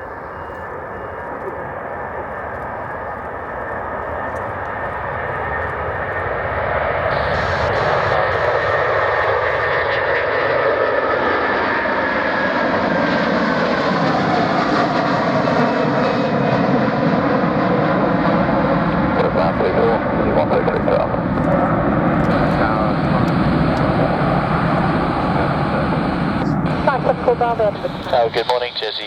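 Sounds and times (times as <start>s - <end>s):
jet engines at takeoff power: 0.0s - 29.0s.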